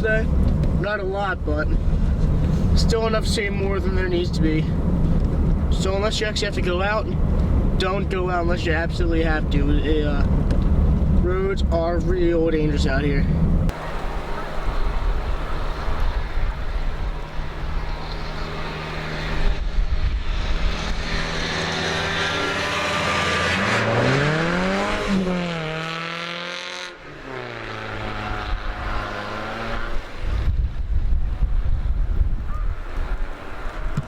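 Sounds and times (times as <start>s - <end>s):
car engine revving: 0.0s - 32.0s
road and wind hiss: 0.0s - 34.0s.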